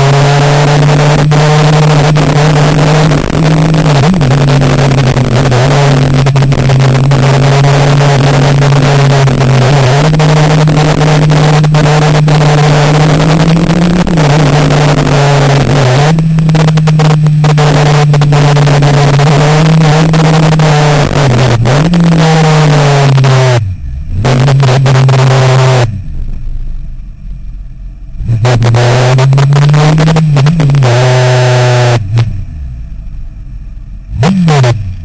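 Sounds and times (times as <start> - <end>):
motorcycle engine running hard: 0.0 - 35.0.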